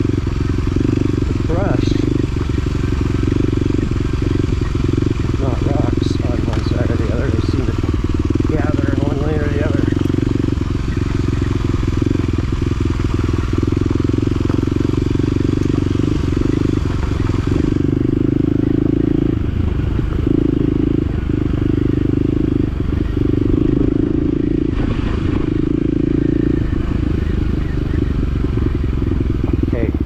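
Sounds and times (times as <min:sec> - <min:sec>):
utv engine running: 0:00.0 - 0:30.0.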